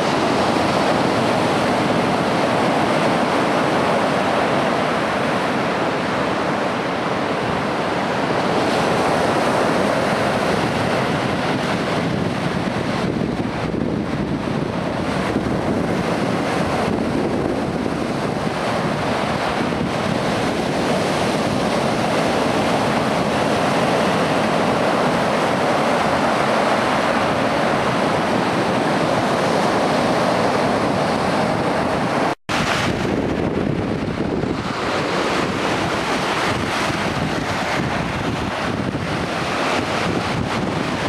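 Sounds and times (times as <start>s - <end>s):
waves breaking on rocks: 0.0s - 41.0s
wind buffeting microphone: 0.0s - 41.0s.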